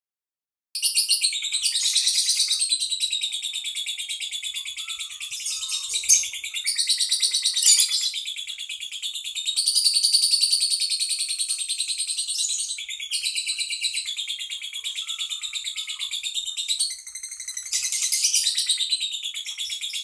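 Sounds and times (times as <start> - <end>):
songbird chattering song: 0.8 - 20.0.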